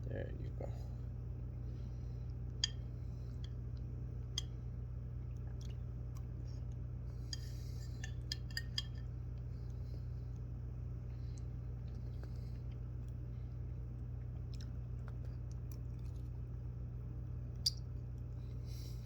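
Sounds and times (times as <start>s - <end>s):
steady low hum: 0.0s - 19.0s
parrots biting and chewing food: 1.6s - 19.0s.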